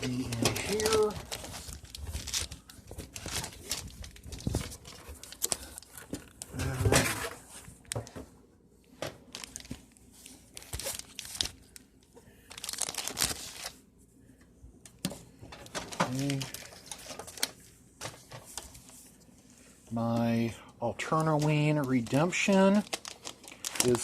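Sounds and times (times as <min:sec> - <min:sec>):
paper and packaging crinkling: 0:00.0 - 0:08.2, 0:09.0 - 0:14.0, 0:15.0 - 0:24.0.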